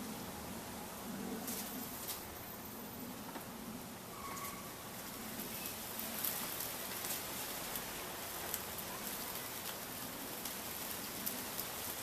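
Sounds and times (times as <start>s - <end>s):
ceiling fan hissing: 0.0s - 12.0s.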